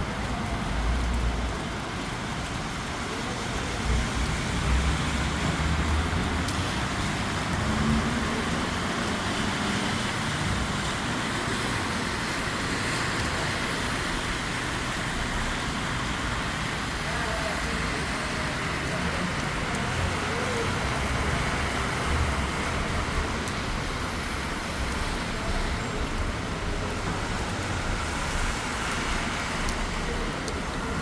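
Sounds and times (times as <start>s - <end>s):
rain and wet tyres hissing: 0.0s - 31.0s
vehicles rumbling past: 0.1s - 31.0s.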